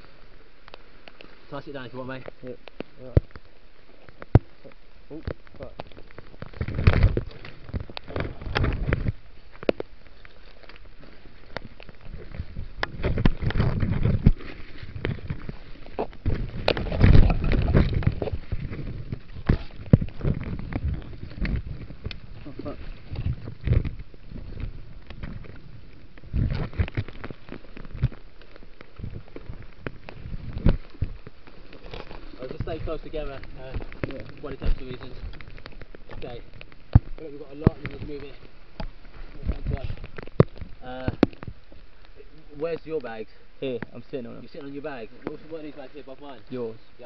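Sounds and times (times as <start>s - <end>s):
foliage rustling and crackling: 0.0s - 47.0s.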